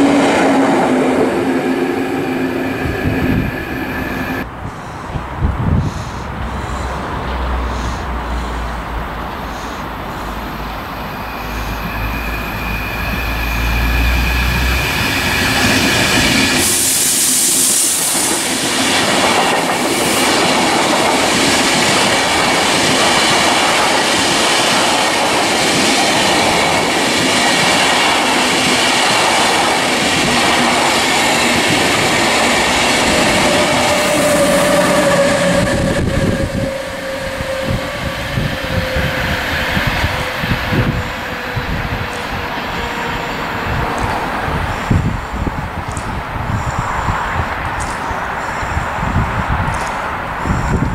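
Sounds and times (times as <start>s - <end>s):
train passing: 0.0s - 50.9s.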